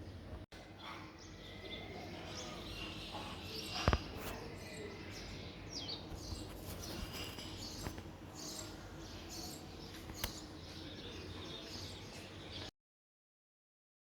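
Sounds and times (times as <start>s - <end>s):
outdoor background noise: 0.0s - 12.7s
small birds chirping: 0.0s - 12.7s.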